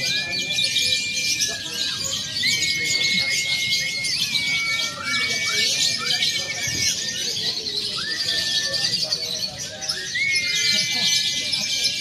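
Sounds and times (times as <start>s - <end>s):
lovebirds chattering: 0.0s - 12.0s.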